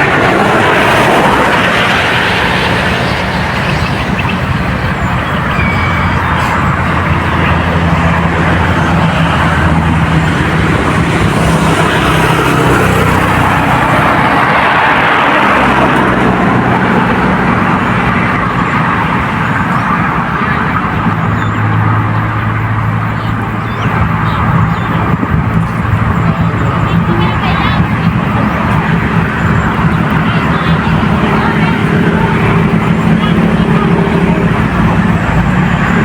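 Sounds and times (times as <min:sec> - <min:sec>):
engine passing by: 0:00.0 - 0:36.0.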